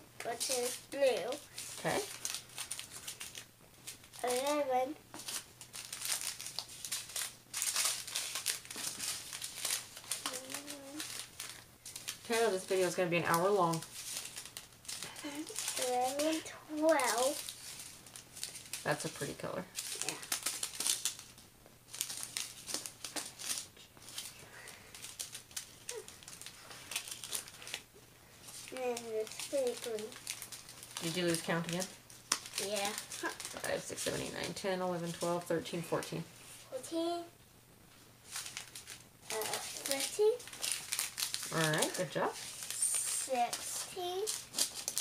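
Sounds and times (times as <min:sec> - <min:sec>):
plastic bags crinkling: 0:00.3 - 0:35.7, 0:38.2 - 0:45.0.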